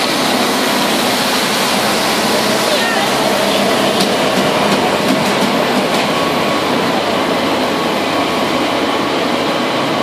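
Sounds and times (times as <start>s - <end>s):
machine engine droning: 0.0s - 9.3s.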